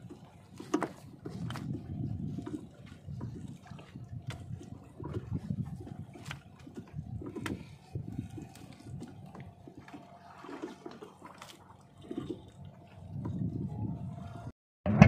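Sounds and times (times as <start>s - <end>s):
water sloshing and dripping: 0.0s - 14.5s.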